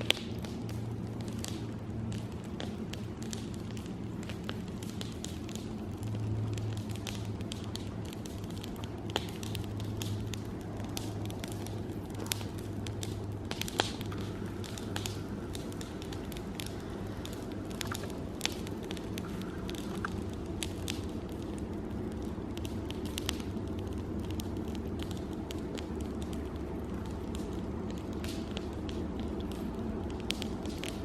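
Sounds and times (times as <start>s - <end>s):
campfire crackling and popping: 0.0s - 31.0s
steady low hum: 0.0s - 31.0s.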